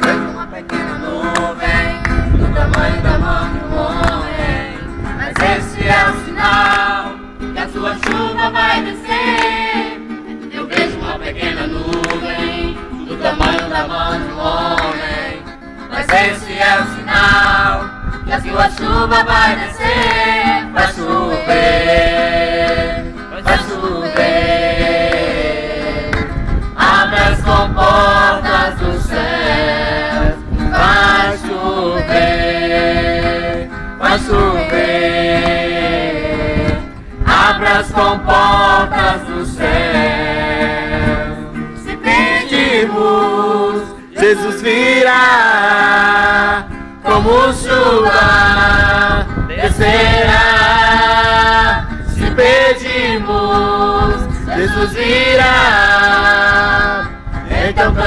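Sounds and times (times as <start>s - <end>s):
acoustic guitar: 0.0s - 58.0s
group singing a worship song: 0.0s - 58.0s.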